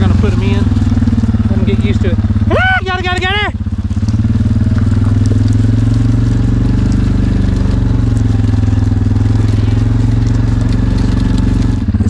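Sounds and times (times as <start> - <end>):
utility vehicle engine droning: 0.0 - 12.0.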